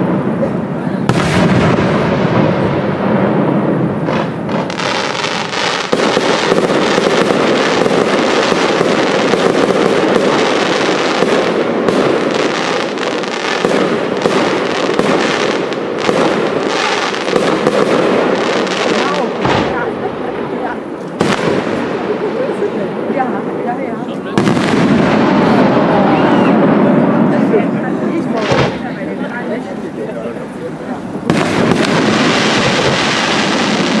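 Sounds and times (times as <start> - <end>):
fireworks bursts and bangs: 0.0 - 34.0.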